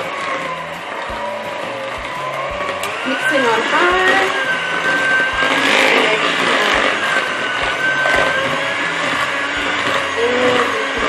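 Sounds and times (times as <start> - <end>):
electric mixer whining: 0.0 - 11.0.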